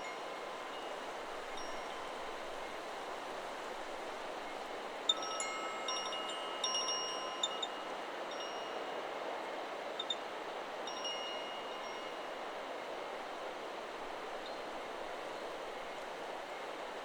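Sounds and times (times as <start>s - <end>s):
wind hiss: 0.0s - 17.0s.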